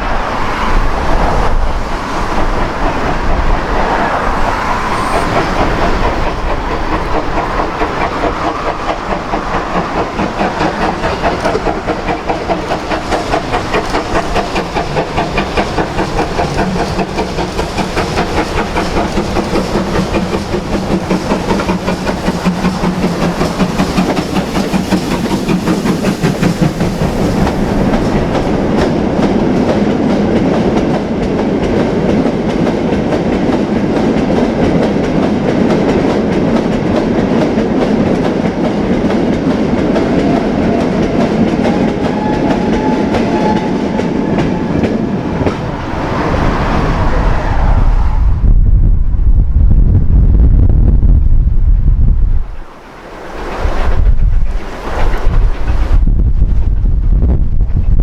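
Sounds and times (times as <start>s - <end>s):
steam train running past: 0.0s - 49.6s, 50.6s - 58.0s
heavy rail noise: 0.0s - 58.0s.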